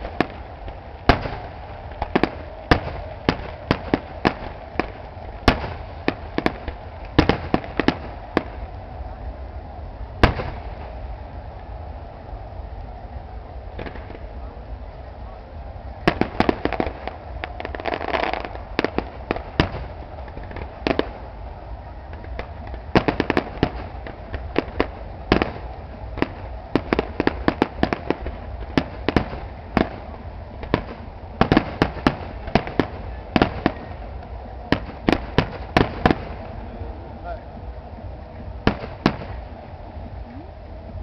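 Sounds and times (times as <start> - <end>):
fireworks bursting with sharp bangs: 0.0 - 8.8, 10.1 - 12.2, 13.7 - 14.6, 16.0 - 36.8, 38.4 - 40.0.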